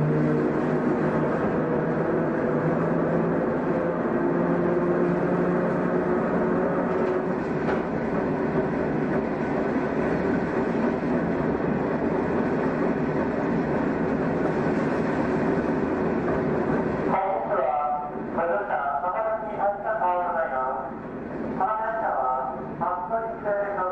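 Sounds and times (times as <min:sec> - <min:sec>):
electric train rumbling: 0:00.0 - 0:23.9.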